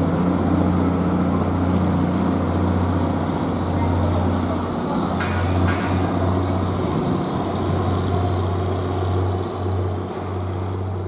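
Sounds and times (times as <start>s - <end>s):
boat engine droning: 0.0s - 11.0s
propeller wash churning: 0.0s - 11.0s.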